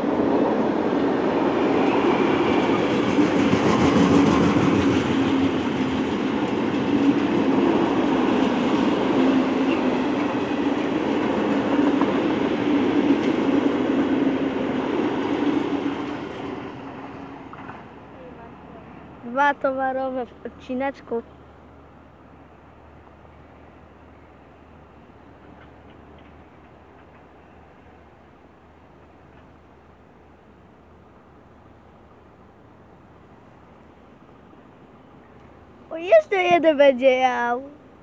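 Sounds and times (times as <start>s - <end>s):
freight train wheels rumbling: 0.0s - 37.7s.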